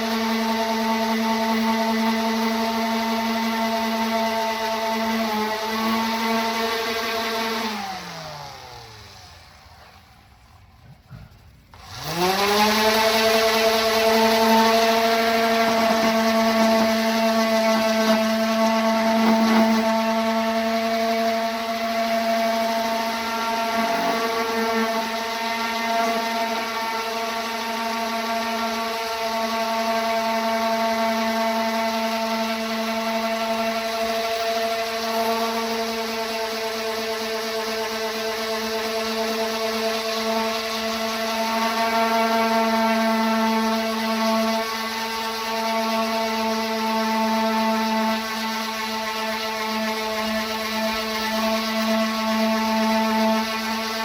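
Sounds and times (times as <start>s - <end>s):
electric orbital sander whining: 0.0s - 54.0s.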